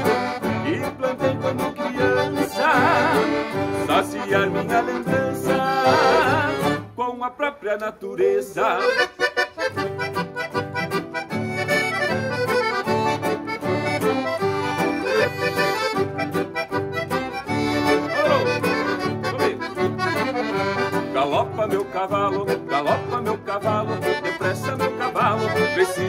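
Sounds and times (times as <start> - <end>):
bass line: 0.0 - 7.0, 9.4 - 26.0
rhythmic accompaniment: 0.0 - 7.0, 8.8 - 26.0
accordion melody: 0.0 - 7.2, 8.6 - 26.0.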